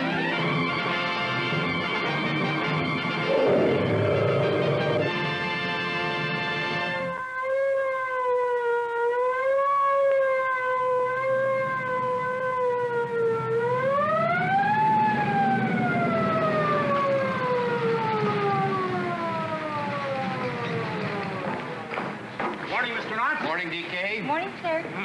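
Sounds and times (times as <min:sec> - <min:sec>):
police siren wailing: 0:00.0 - 0:21.9.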